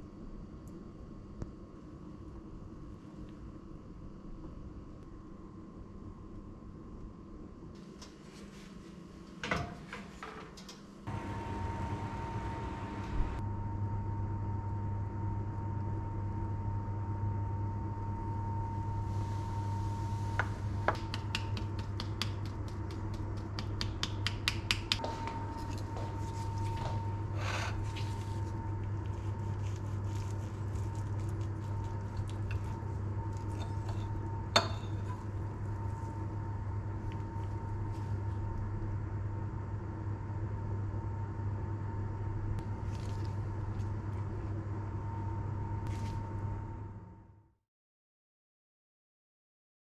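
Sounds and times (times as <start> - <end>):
electrical hum: 0.0 - 47.4.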